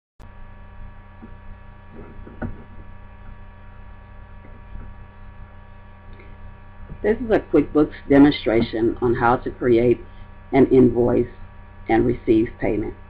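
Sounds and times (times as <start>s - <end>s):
electrical mains hum: 0.2s - 13.0s.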